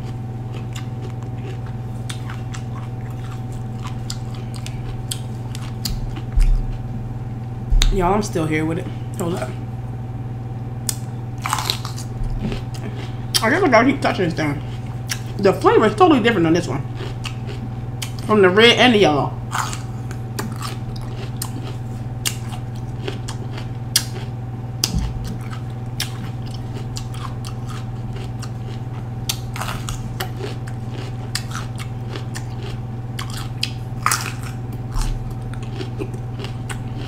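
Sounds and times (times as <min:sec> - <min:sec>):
crunching bell pepper: 0:00.0 - 0:07.0, 0:10.8 - 0:13.6, 0:14.6 - 0:16.0, 0:16.8 - 0:18.3, 0:19.5 - 0:37.0
low hum: 0:00.0 - 0:37.0.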